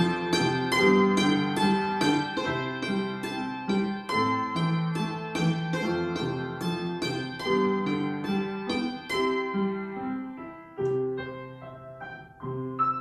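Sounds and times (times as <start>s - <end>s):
solo piano notes: 0.0s - 13.0s.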